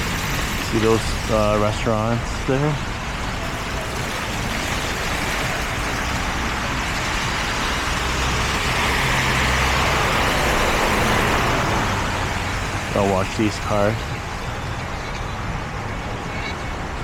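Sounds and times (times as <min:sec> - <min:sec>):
hiss of tyres on wet road: 0:00.0 - 0:14.7.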